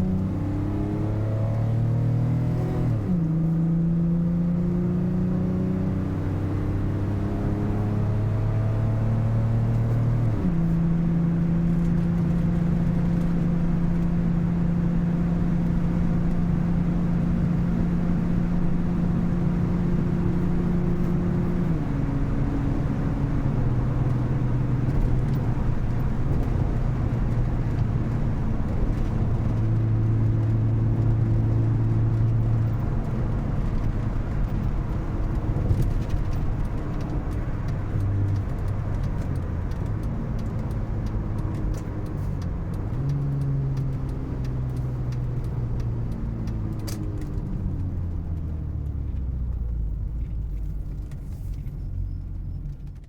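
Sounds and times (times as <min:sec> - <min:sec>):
car engine running: 0:08.7 - 0:53.0.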